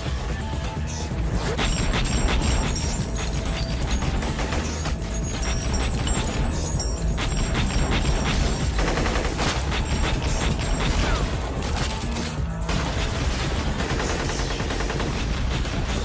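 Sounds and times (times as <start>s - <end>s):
background music: 0.0s - 16.0s
rapid rifle gunfire: 1.5s - 16.0s.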